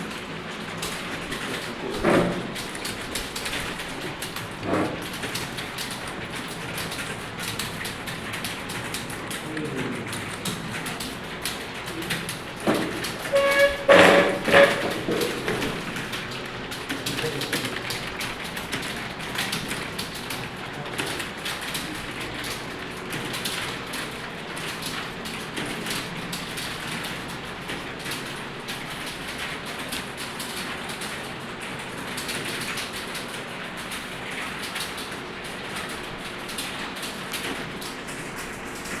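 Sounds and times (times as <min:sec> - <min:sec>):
rapid typing on keyboards: 0:00.0 - 0:39.0.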